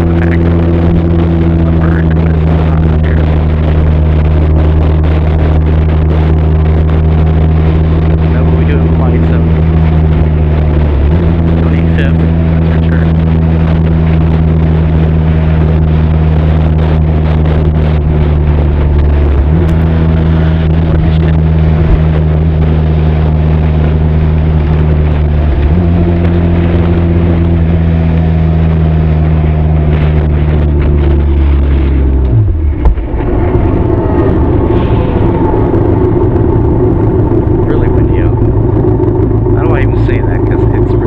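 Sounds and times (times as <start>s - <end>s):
motorcycle engine cruising: 0.0s - 41.0s.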